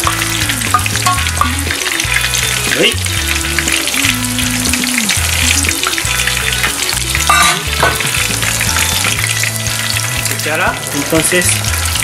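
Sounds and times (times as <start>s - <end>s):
shrimp deep-frying in hot oil: 0.0s - 12.0s.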